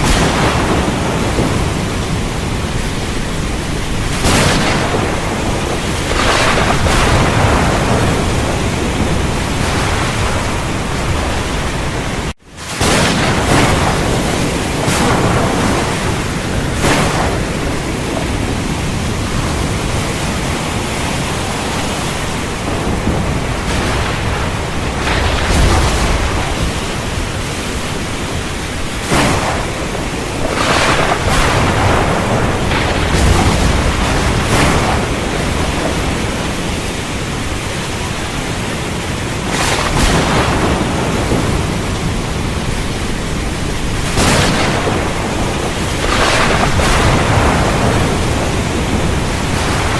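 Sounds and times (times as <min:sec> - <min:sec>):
heavy rain: 0:00.0 - 0:49.9
thunder cracks and rumble: 0:00.0 - 0:49.9.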